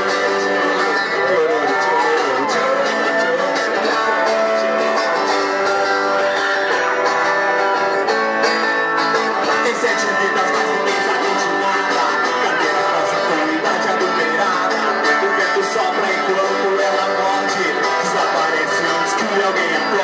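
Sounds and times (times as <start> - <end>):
electric guitar strumming: 0.0 - 20.0.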